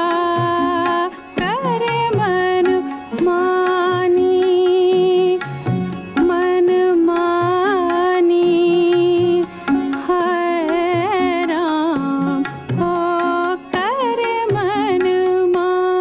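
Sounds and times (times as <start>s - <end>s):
indian classical melody: 0.0s - 16.0s.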